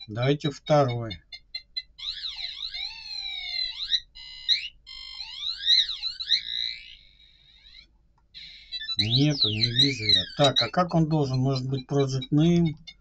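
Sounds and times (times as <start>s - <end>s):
electronic buzzer chirps: 0.0s - 13.0s.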